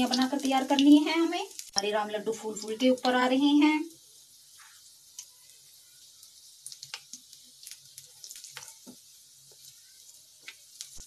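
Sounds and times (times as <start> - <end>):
batter sizzling in hot oil: 0.0 - 11.0
oil popping and crackling: 0.0 - 11.0.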